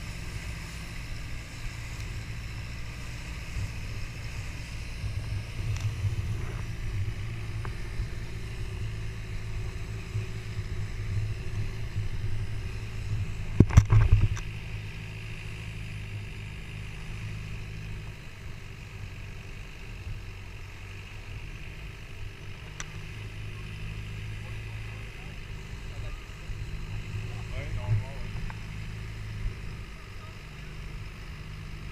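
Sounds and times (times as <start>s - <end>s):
motorboat engine droning: 0.0s - 31.9s.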